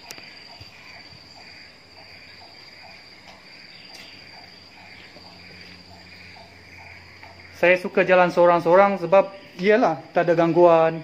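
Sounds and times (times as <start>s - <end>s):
insects droning high-pitched: 0.0s - 11.0s.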